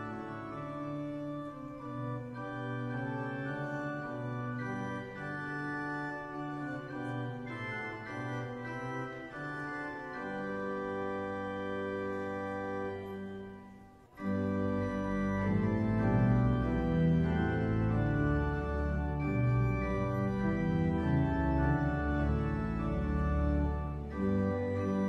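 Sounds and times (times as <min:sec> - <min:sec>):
church organ chords: 0:00.0 - 0:25.0.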